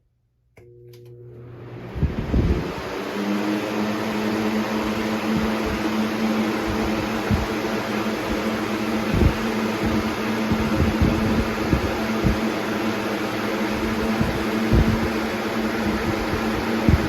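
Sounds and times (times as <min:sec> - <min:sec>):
box fan running: 0:00.6 - 0:17.0.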